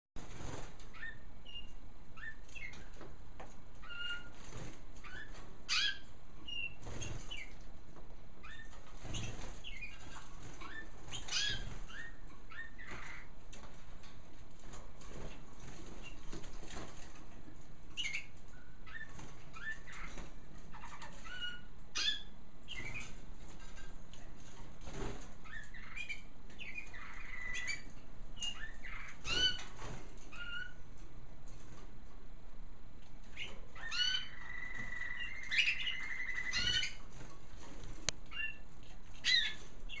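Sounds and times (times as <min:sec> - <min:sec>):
wings fluttering: 0:00.2 - 0:01.6, 0:02.5 - 0:07.7, 0:08.4 - 0:21.6, 0:22.7 - 0:30.8, 0:33.2 - 0:40.0
canaries chirping: 0:00.2 - 0:31.8, 0:33.2 - 0:40.0.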